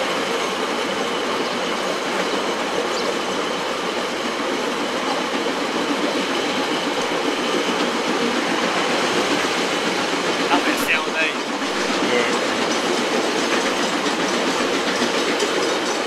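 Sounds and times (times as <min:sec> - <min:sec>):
train rolling along rails: 0:00.0 - 0:16.0.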